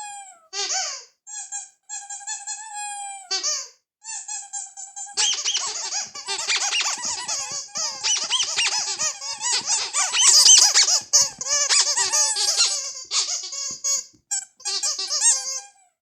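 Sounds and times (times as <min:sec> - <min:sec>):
rubber squeaky toys squeaking: 0:00.0 - 0:16.0.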